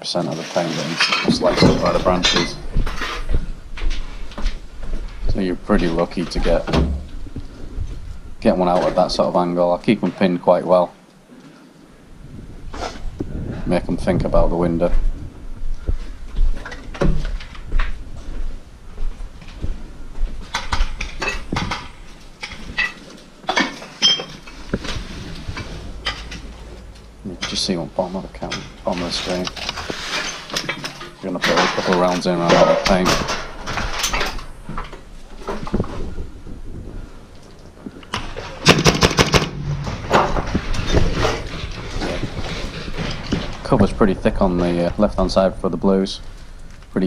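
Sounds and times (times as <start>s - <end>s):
footsteps crunching over rubble: 0.6s - 10.2s, 12.6s - 38.6s, 39.5s - 45.6s.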